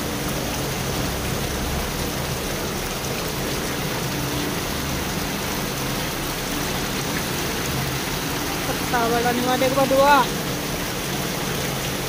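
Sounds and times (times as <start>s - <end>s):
heavy rain on pavement: 0.0s - 12.0s.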